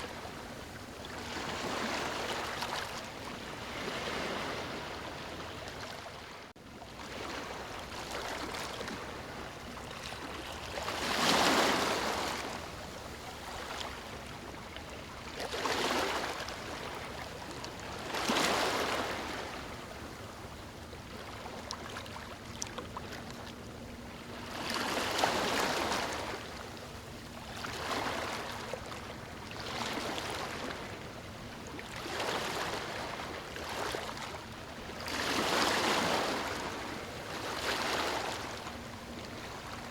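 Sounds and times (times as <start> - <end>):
sea waves breaking on beach: 0.0 - 19.9, 24.3 - 31.1, 31.8 - 39.9.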